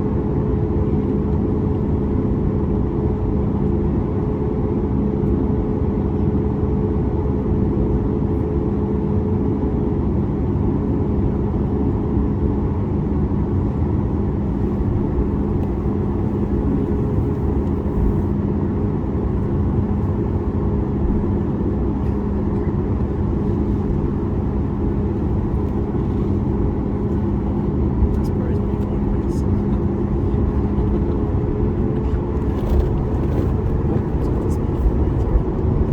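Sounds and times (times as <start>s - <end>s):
jet engines rumbling in cabin: 0.0s - 35.9s.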